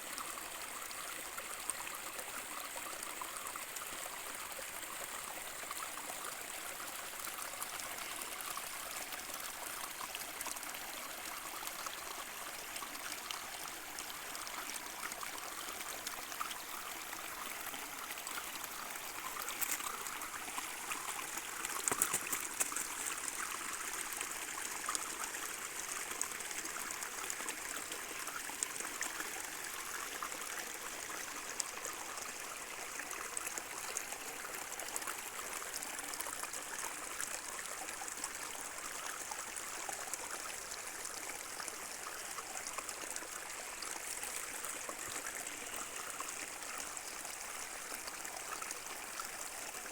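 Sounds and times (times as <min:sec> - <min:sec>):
stream trickling over rocks: 0:00.0 - 0:49.9.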